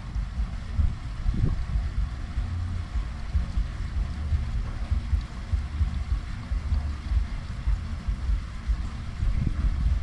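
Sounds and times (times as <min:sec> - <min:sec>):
faint steady hiss: 0:00.0 - 0:10.0
wind buffeting microphone: 0:00.0 - 0:10.0.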